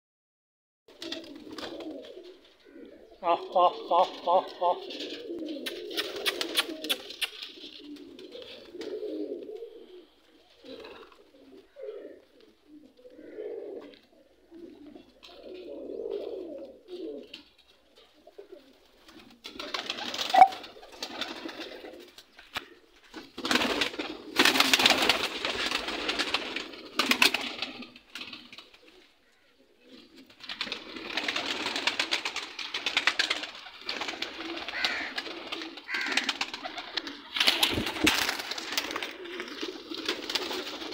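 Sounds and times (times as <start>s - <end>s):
pigeons cooing: 0.9s - 40.9s.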